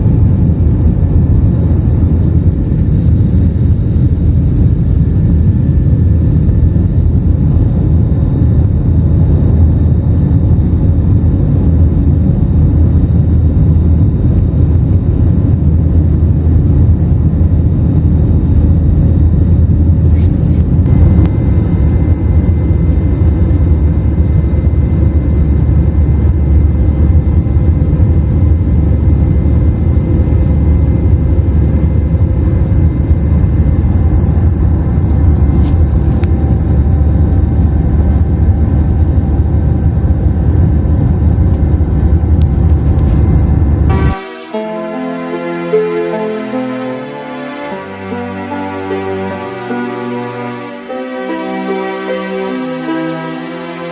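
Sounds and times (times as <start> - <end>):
airliner engine rumble in cabin: 0.0 - 44.2.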